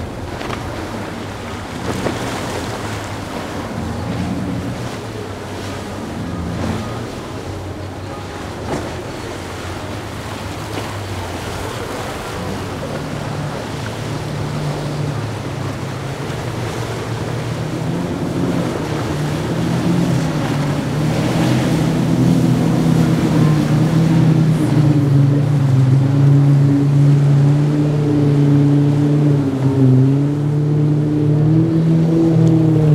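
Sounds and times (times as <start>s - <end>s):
outboard engines humming: 0.0s - 32.9s
waves rushing: 0.0s - 32.9s
wind: 0.0s - 32.9s.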